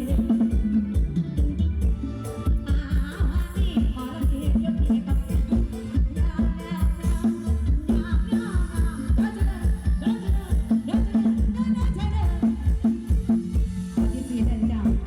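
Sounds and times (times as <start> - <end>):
fast drum beat: 0.0 - 15.0
live band music: 0.0 - 15.0.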